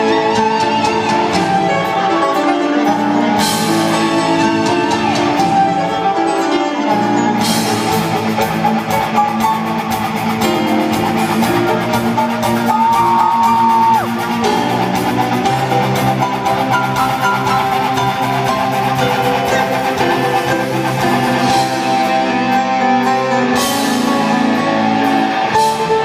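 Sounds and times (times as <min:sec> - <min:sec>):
live rock band: 0:00.0 - 0:26.0.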